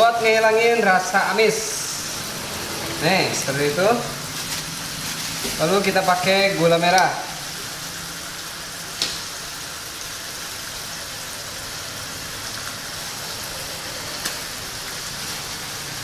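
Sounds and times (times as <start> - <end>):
mussels sizzling in a wok: 1.6 - 16.0.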